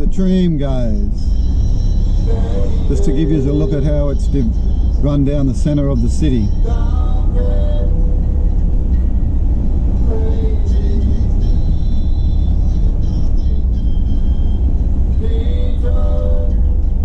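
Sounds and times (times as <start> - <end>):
car road and engine rumble: 0.0 - 17.0
faint music: 0.0 - 17.0.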